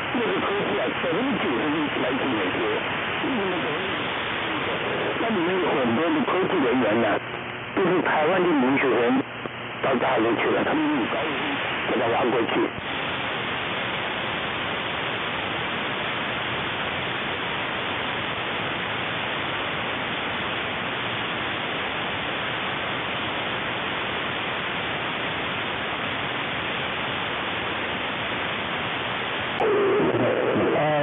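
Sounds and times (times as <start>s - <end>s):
shortwave radio static: 0.0s - 31.0s.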